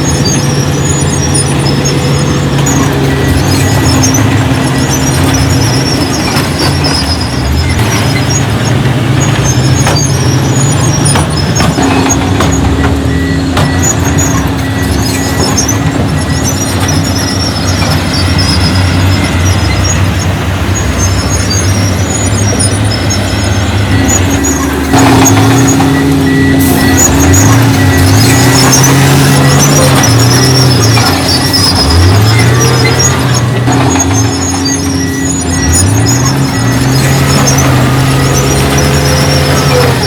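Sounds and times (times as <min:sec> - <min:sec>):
heavy diesel engines running: 0:00.0 - 0:40.0
metal knocks and clanks: 0:00.0 - 0:40.0.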